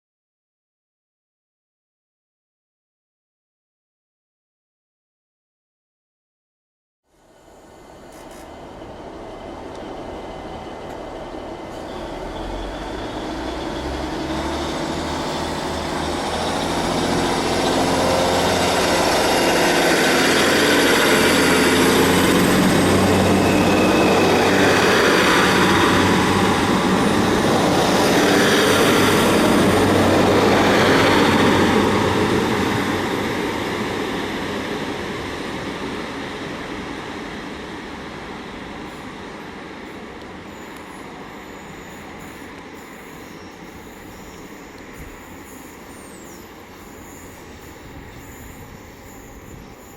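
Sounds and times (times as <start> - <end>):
diesel train rumbling: 7.3 - 49.9.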